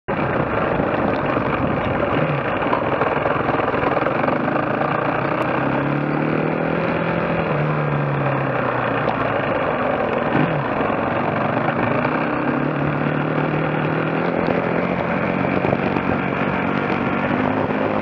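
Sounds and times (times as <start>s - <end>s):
motorcycle engine: 0.1s - 18.0s
wind and road noise: 0.1s - 18.0s.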